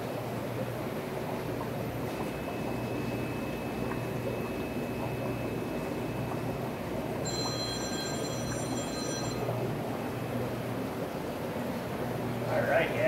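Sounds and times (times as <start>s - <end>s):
aquarium filters and pumps rumbling: 0.0s - 13.0s
low hum: 0.1s - 12.5s.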